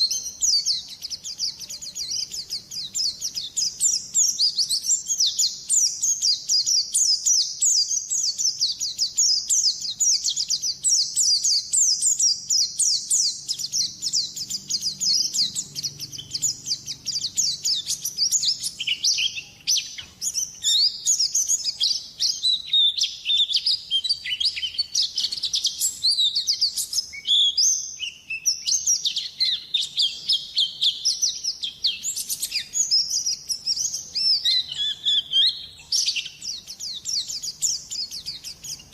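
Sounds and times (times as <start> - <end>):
bird singing high chirps and trills: 0.0 - 38.9.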